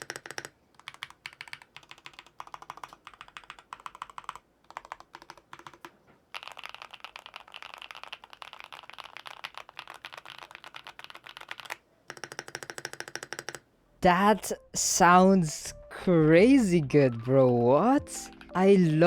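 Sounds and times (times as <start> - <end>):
typing on mechanical keyboard: 0.0 - 13.6, 16.8 - 19.0.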